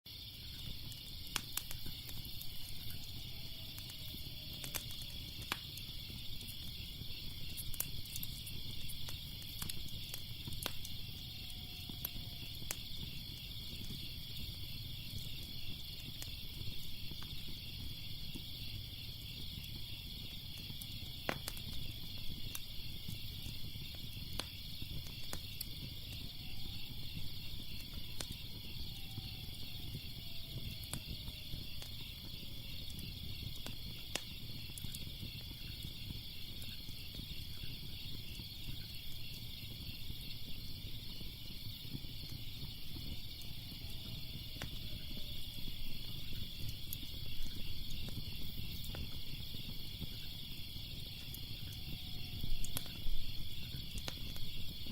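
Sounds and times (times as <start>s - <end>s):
crickets chirping: 0.1s - 54.9s
wood fire crackling: 0.1s - 54.9s.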